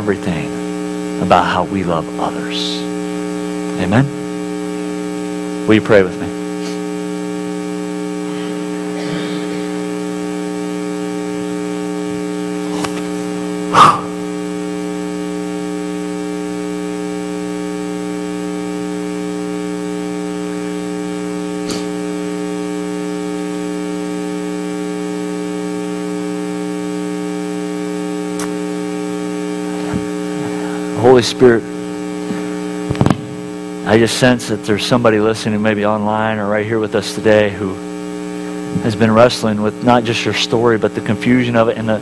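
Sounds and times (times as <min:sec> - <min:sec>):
electrical mains hum and buzz: 0:00.0 - 0:42.0.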